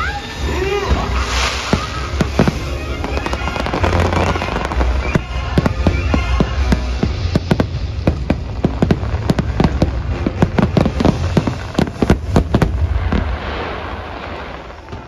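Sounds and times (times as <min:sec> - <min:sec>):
fireworks bangs: 0:00.0 - 0:15.0
fireworks crackle: 0:00.0 - 0:15.0
low rumble: 0:00.0 - 0:15.0.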